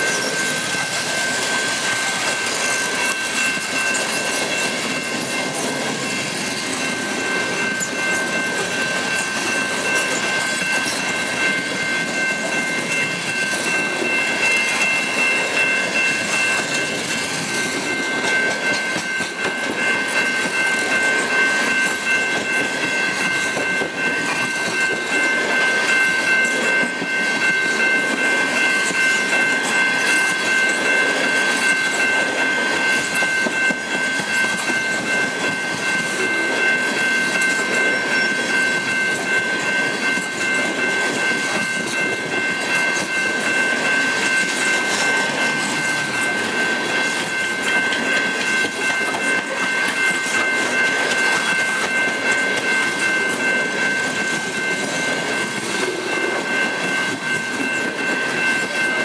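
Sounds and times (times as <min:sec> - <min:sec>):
freight train rolling past: 0:00.0 - 0:59.0
high-pitched ringing tone: 0:00.0 - 0:59.0.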